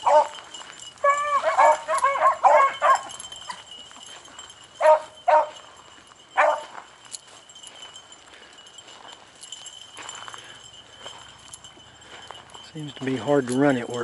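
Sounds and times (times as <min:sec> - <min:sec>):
beagles baying: 0:00.0 - 0:14.0.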